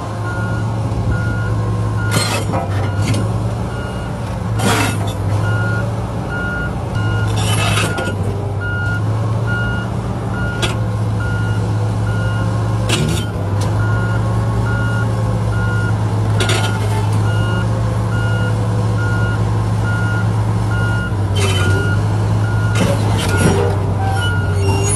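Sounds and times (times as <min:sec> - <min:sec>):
bulldozer diesel engine droning: 0:00.0 - 0:24.9
reversing alarm beeping: 0:00.2 - 0:04.1, 0:05.4 - 0:12.5, 0:13.8 - 0:15.9, 0:16.6 - 0:24.9.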